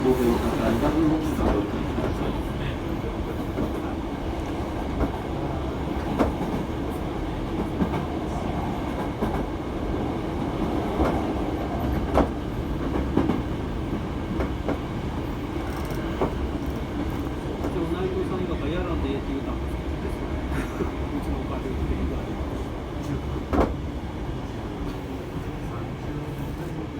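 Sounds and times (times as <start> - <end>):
train low rumble: 0.0 - 26.9.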